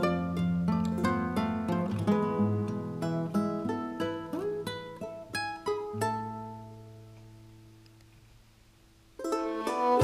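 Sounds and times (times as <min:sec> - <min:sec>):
plucked string music: 0:00.0 - 0:07.8, 0:09.1 - 0:10.0.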